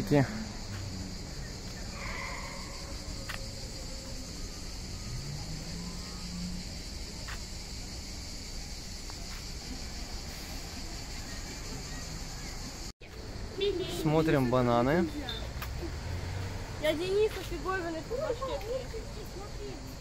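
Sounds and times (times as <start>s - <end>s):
insects shrilling: 0.0s - 20.0s.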